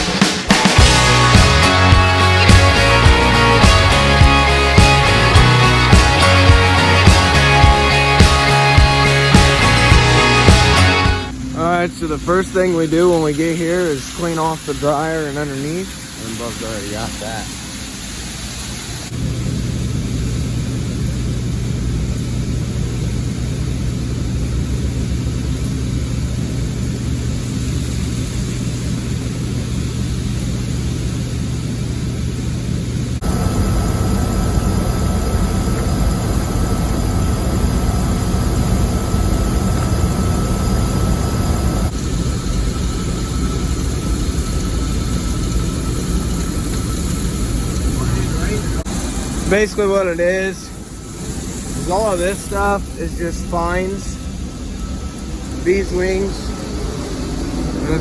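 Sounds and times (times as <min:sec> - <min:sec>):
farm machinery droning: 0:00.0 - 0:30.0, 0:33.2 - 0:58.0.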